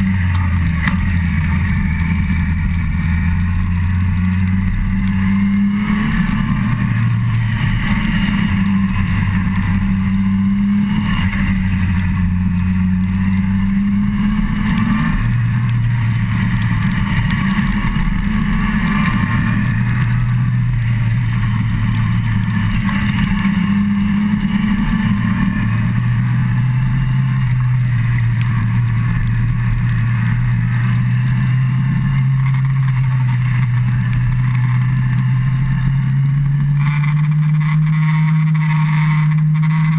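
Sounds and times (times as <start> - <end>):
motorcycle engine running: 0.0 - 39.9
tyres on wet road: 0.0 - 39.9.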